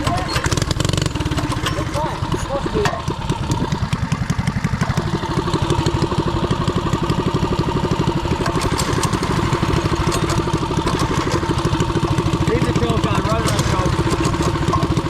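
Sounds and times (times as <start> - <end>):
single-cylinder engine running: 0.0 - 15.0.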